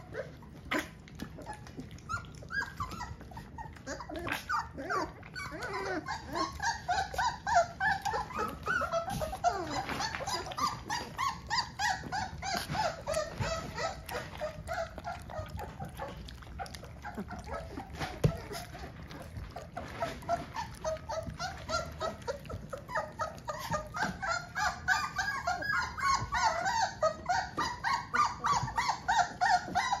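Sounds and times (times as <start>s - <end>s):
puppies lapping milk: 0.0s - 30.0s
puppies whimpering and whining: 0.0s - 30.0s.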